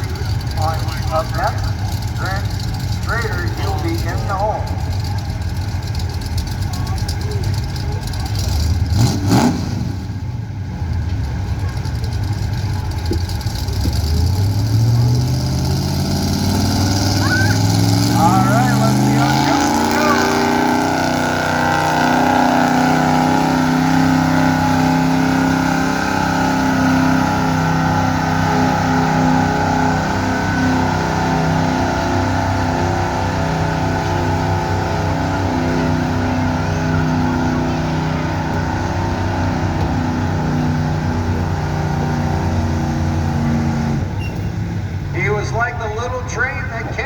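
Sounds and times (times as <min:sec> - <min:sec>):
truck engine at high revs: 0:00.0 - 0:47.0.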